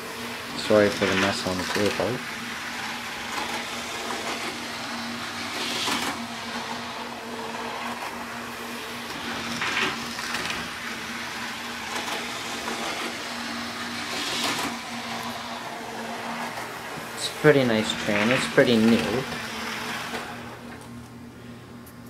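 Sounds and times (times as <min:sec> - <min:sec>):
model train motor whir: 0:00.0 - 0:20.9.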